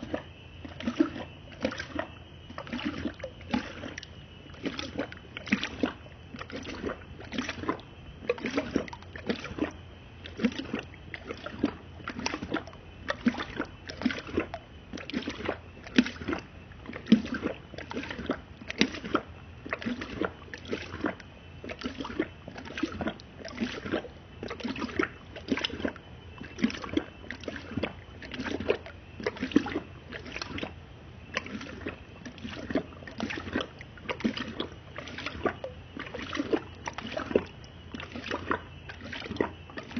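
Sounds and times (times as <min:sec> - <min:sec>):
dog lapping water: 0:00.0 - 0:39.9.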